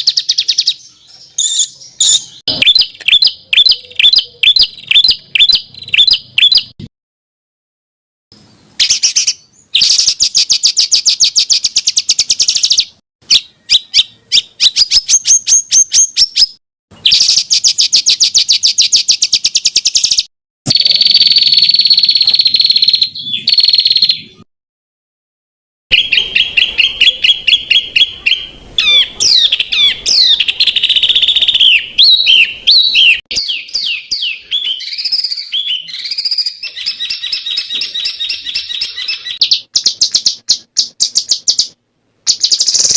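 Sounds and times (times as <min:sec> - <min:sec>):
songbird trills and whistles: 0:00.0 - 0:06.8, 0:08.8 - 0:24.4, 0:25.9 - 0:42.9.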